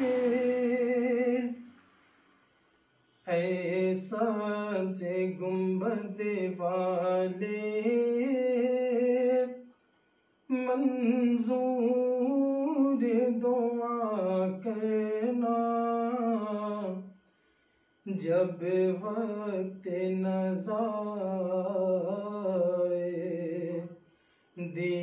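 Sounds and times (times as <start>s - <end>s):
man singing unaccompanied: 0.0s - 1.8s, 3.2s - 9.6s, 10.5s - 17.1s, 18.1s - 24.0s, 24.6s - 25.0s.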